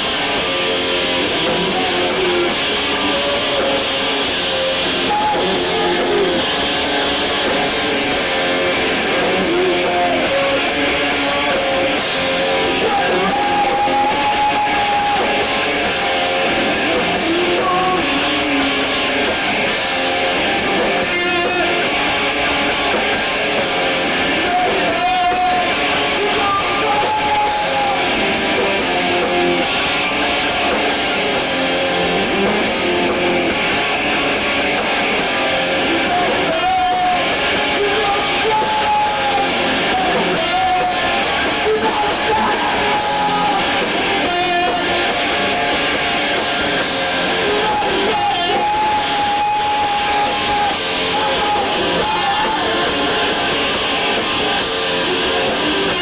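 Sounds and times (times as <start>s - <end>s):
drums and cymbals: 0.0s - 56.0s
electric guitars: 0.0s - 56.0s.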